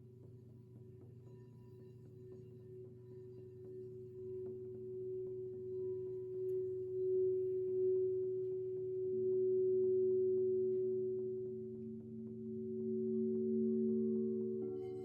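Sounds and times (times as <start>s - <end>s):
singing bowl sustained tone: 0.8s - 15.0s.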